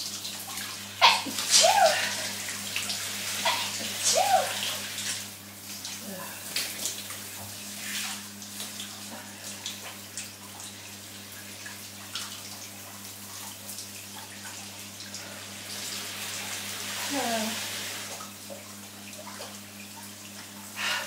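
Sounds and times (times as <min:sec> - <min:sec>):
shower water spraying: 0:00.0 - 0:21.0
water splashes: 0:00.0 - 0:21.0.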